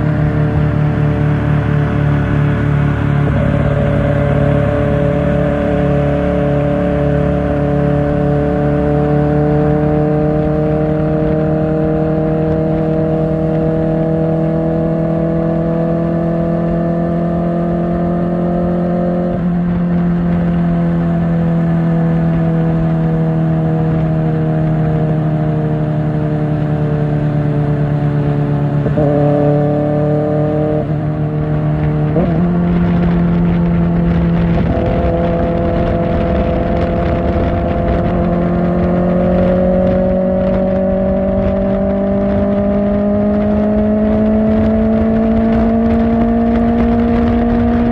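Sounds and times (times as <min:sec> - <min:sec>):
motorcycle engine shifting gears: 0:00.0 - 0:47.9.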